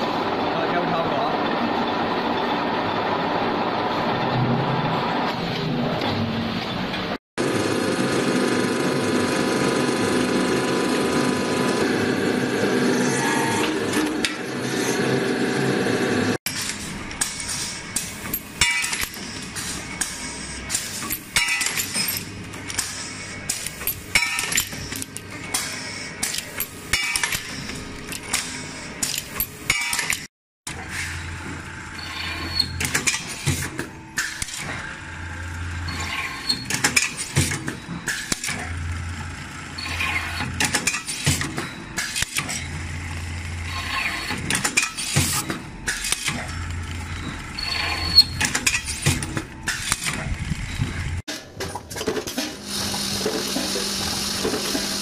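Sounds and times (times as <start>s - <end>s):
metalworking machines clicking and clanking: 0.0s - 55.0s.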